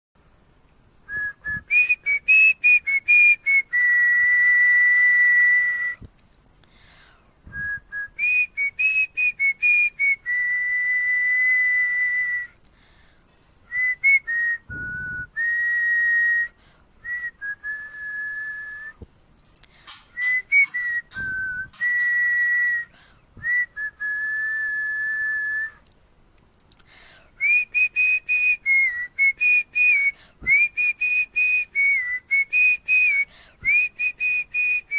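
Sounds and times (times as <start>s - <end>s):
person whistling a melody: 1.1s - 6.1s, 7.5s - 12.6s, 13.7s - 19.0s, 20.1s - 25.8s, 27.4s - 34.9s.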